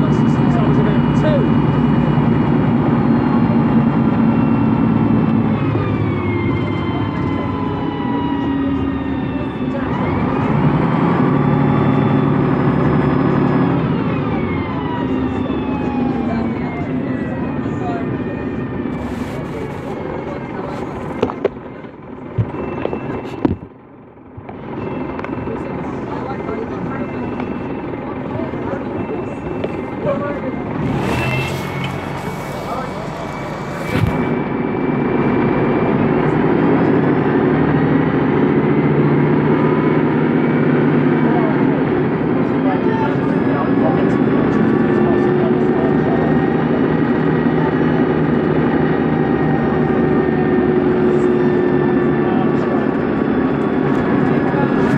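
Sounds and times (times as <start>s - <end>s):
bus diesel engine pulling: 0.0s - 54.9s
engine whine: 0.0s - 54.9s.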